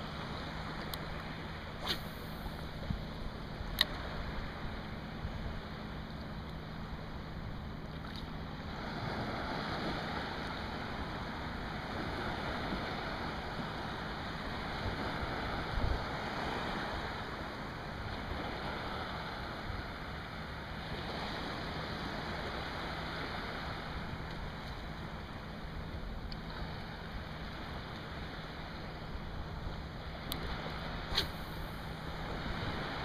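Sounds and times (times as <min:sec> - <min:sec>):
small waves washing in: 0:00.0 - 0:05.9, 0:08.0 - 0:25.8, 0:26.4 - 0:33.0.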